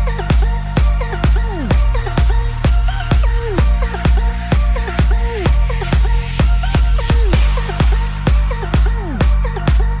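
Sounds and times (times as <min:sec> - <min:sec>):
electronic dance music: 0:00.0 - 0:10.0
steady kick drum: 0:00.0 - 0:10.0.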